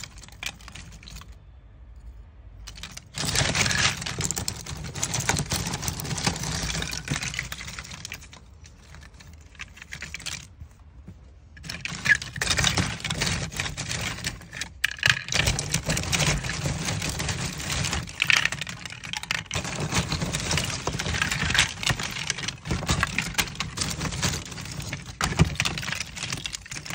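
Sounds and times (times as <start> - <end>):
wood chips clattering: 0.0 - 1.4, 2.6 - 26.9.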